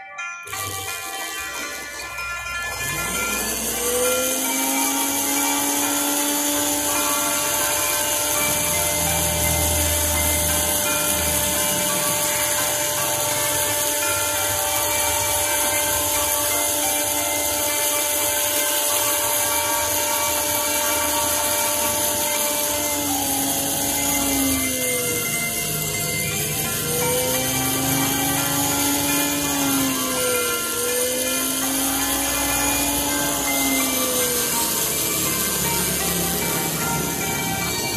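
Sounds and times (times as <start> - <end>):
rotary tool grinding stone: 0.0 - 37.9.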